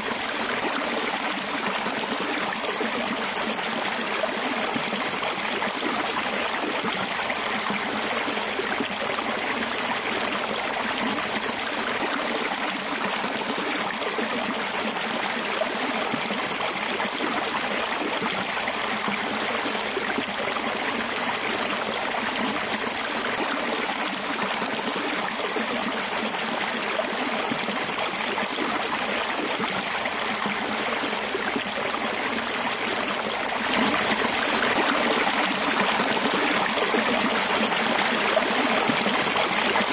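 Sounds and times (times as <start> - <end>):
water rushing down a channel: 0.0 - 39.9.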